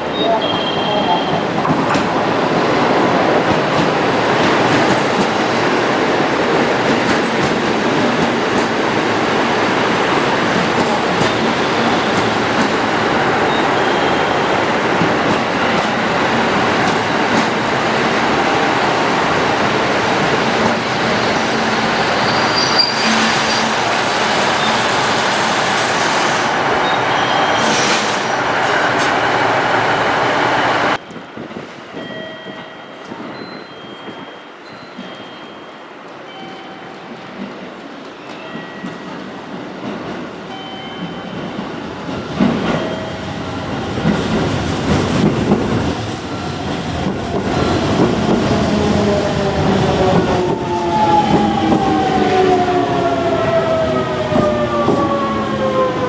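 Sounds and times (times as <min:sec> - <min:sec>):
train wheels rumbling on track: 0:00.0 - 0:34.4, 0:37.0 - 0:56.0.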